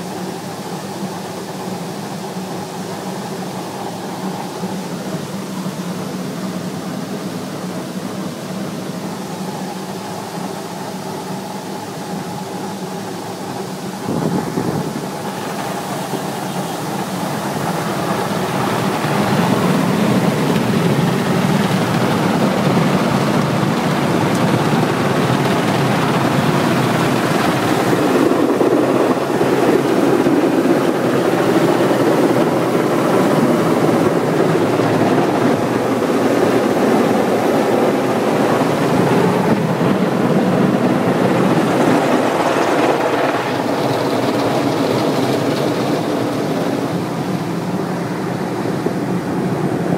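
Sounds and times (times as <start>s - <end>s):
car wash machine hum: 0.0s - 49.9s.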